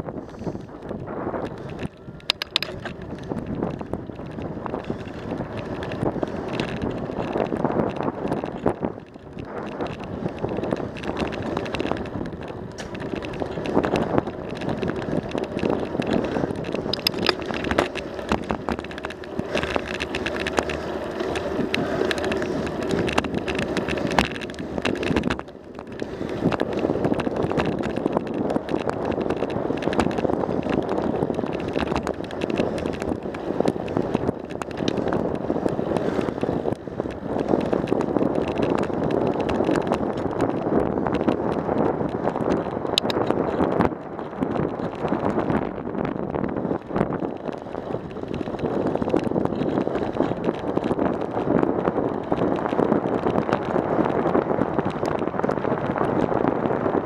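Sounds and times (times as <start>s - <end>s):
bike rattles and clicks: 0.0s - 57.0s
tyre and wind noise: 0.0s - 57.0s.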